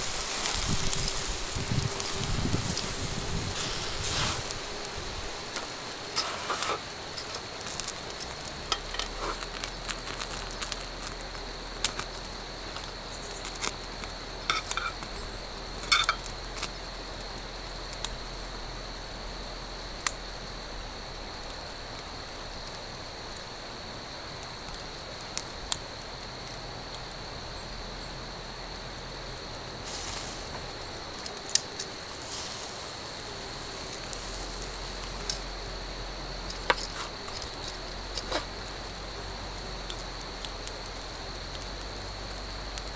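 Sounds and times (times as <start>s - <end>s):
high-pitched insect trill: 0.0s - 42.9s
wood fire crackling: 0.0s - 42.9s.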